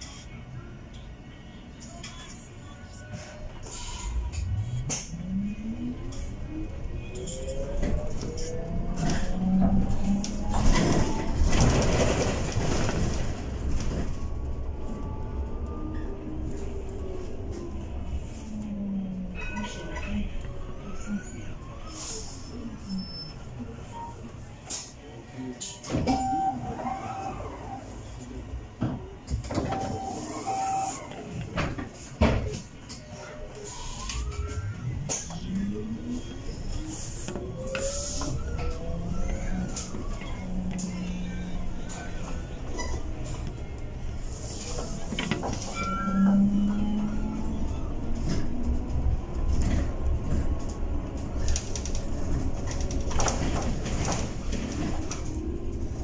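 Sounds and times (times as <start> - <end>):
bus running rumble: 0.0 - 56.0.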